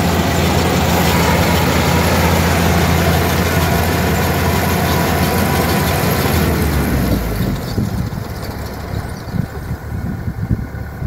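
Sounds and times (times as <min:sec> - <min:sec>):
combine harvester engine drone: 0:00.0 - 0:11.0
mechanical rush of threshing: 0:00.0 - 0:11.0.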